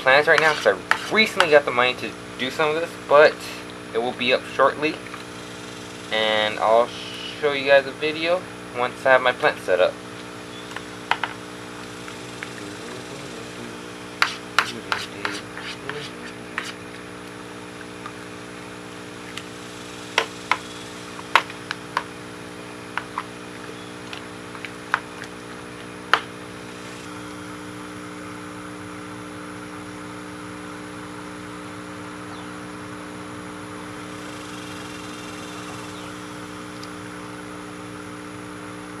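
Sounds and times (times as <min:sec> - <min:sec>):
air pump humming: 0:00.0 - 0:28.4, 0:30.8 - 0:39.0.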